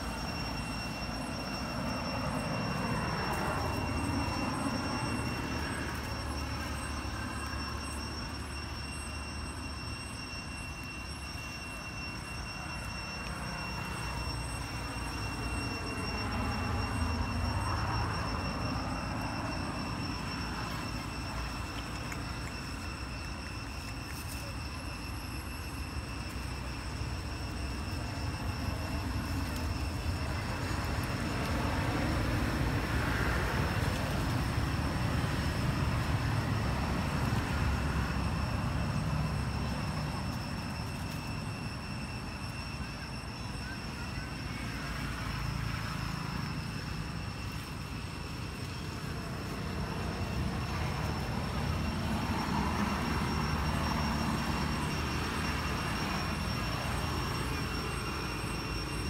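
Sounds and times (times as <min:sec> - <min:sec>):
thin high tones: 0:00.0 - 0:59.0.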